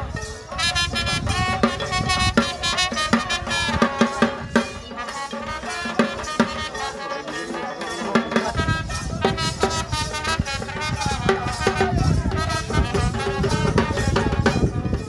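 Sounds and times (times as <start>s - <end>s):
drum strikes: 0.0s - 15.0s.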